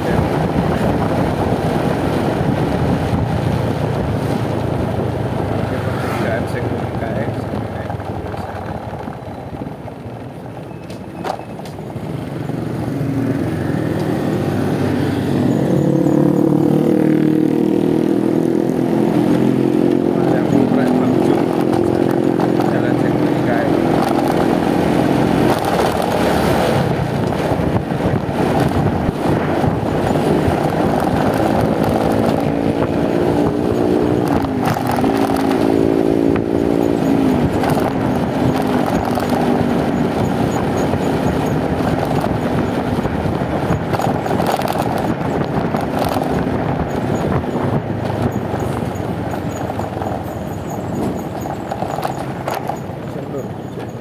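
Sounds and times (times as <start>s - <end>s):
motorcycle engine running: 0.0s - 54.0s
road noise: 0.0s - 54.0s
wind rush on microphone: 0.0s - 54.0s.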